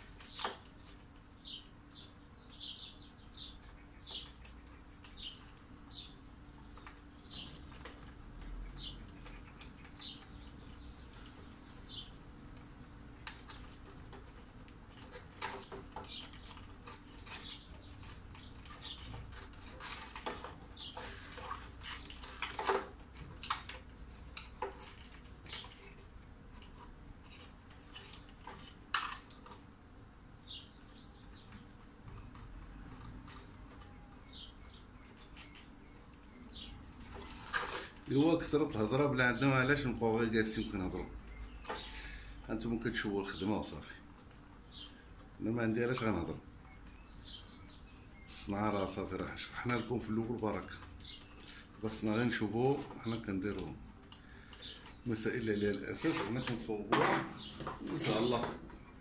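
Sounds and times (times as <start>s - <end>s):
small bird chirping: 0.0s - 29.6s, 30.2s - 59.0s.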